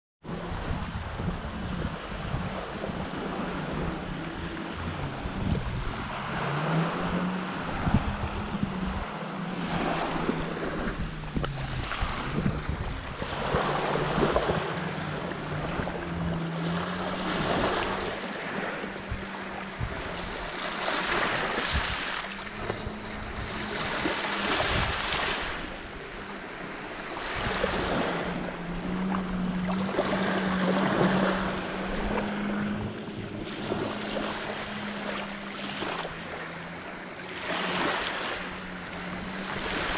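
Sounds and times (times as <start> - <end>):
wind buffeting microphone: 0.2 - 39.9
rushing water: 0.4 - 39.9
motor humming: 0.5 - 39.9.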